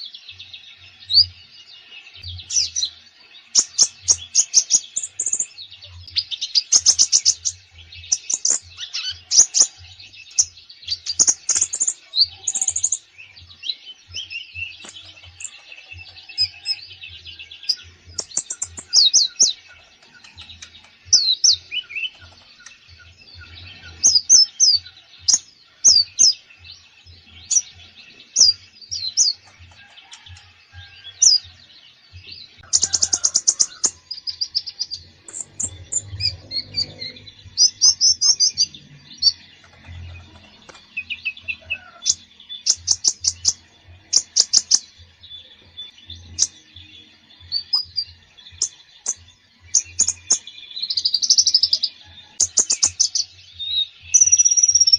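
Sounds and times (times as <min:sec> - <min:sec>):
sunbird singing: 0:00.0 - 0:54.9.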